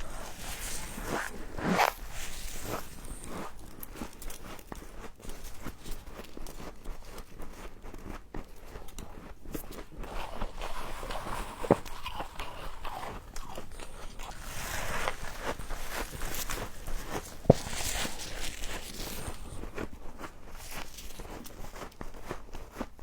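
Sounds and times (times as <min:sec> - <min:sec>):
chewing crunchy frost: 0:00.0 - 0:23.0.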